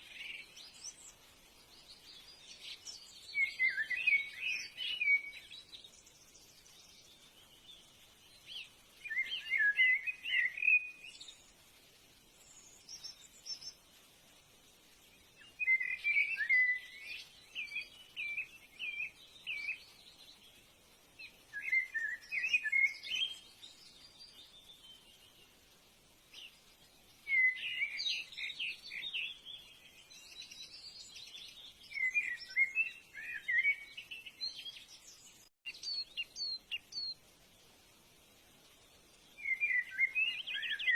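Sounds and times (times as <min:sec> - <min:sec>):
birds chirping: 0:00.0 - 0:37.6, 0:38.6 - 0:40.9.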